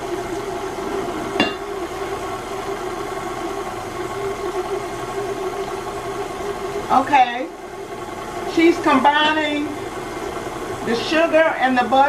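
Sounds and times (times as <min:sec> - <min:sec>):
stand mixer running: 0:00.0 - 0:12.0.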